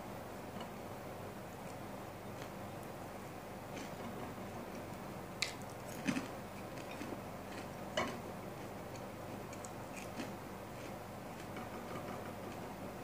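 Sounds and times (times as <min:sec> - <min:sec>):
chewing crunchy fried food: 0:01.6 - 0:12.7.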